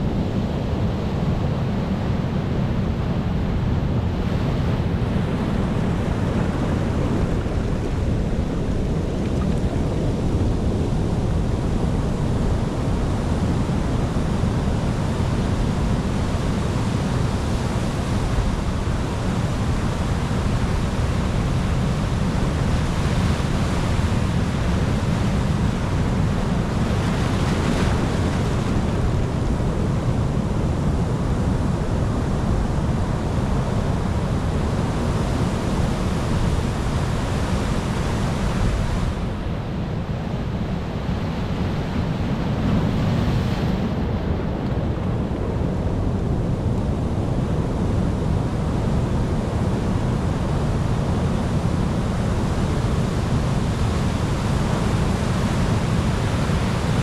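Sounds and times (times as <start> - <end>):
ocean waves rumbling: 0.0 - 57.0.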